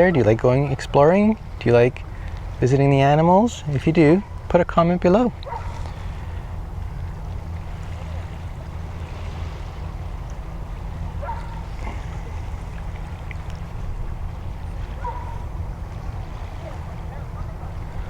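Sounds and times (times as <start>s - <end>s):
water along shoreline: 0.0s - 18.0s
wind: 0.0s - 18.0s.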